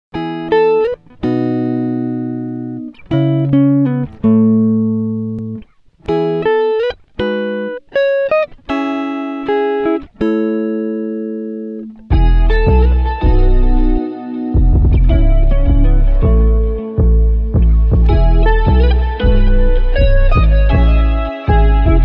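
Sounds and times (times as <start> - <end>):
plucked guitar music: 0.1 - 22.0.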